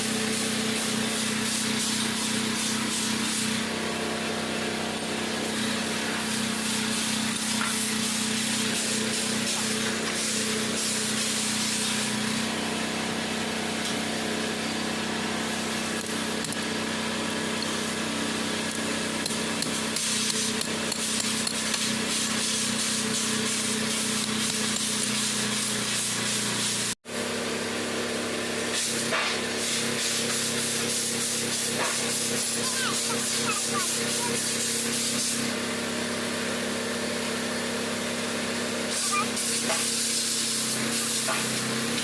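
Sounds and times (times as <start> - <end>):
machine humming with hiss: 0.0 - 42.0.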